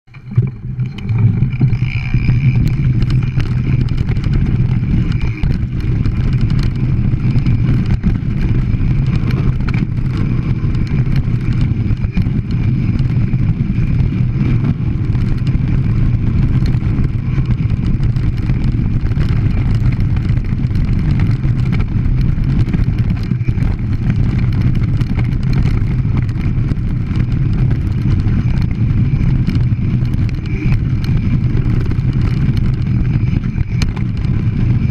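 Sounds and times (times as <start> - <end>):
bike clicks and rattles: 0.1 - 34.9
tyres rumbling on loose stone: 0.2 - 34.9.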